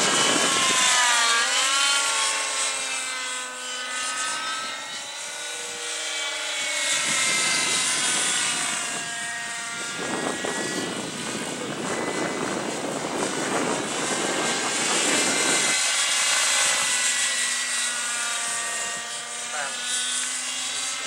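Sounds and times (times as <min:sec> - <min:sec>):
model helicopter engine whine: 0:00.0 - 0:21.0.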